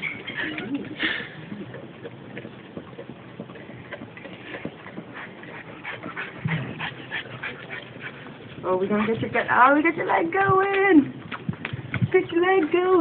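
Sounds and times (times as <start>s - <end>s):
pig crunching and snuffling: 0.0s - 13.0s.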